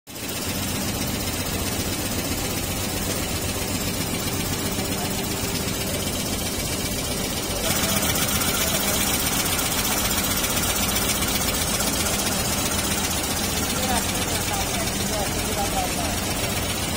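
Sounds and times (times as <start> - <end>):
quilting machine humming and clattering: 0.1 - 16.9.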